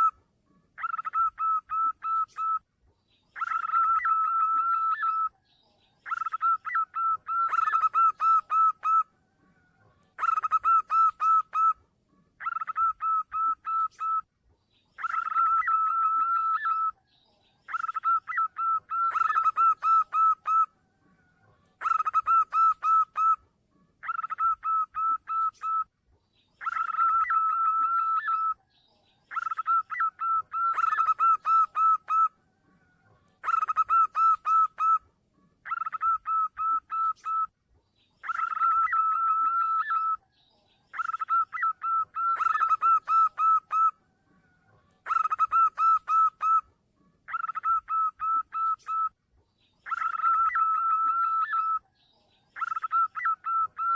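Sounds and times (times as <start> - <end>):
dove cooing: 0.8 - 2.6, 3.4 - 5.3, 6.0 - 11.8, 12.4 - 14.2, 15.0 - 17.0, 17.7 - 23.4, 24.0 - 25.9, 26.6 - 28.6, 29.3 - 35.0, 35.6 - 37.5, 38.2 - 40.2, 40.9 - 49.1, 49.8 - 51.8, 52.6 - 53.9.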